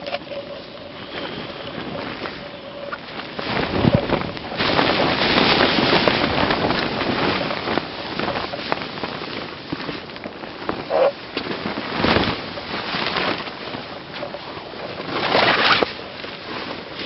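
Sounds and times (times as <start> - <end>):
crackles and clicks: 0.0 - 17.0
wind buffeting microphone: 0.0 - 17.0.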